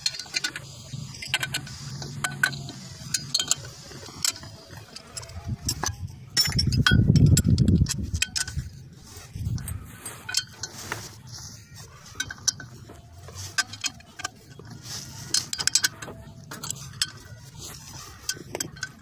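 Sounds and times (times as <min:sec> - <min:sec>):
wrench clicking on bolts: 0:00.0 - 0:19.0.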